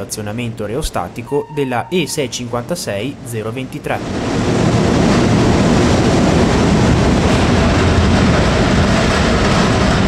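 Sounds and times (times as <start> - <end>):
electric locomotive motors roaring: 0.6 - 10.0.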